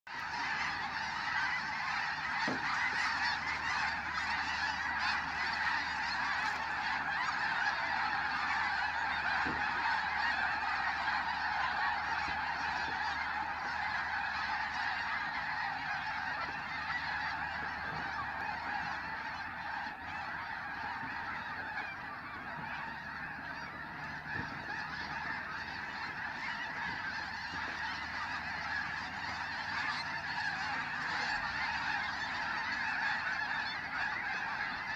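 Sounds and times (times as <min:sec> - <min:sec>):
flock of geese honking: 0:00.1 - 0:34.9.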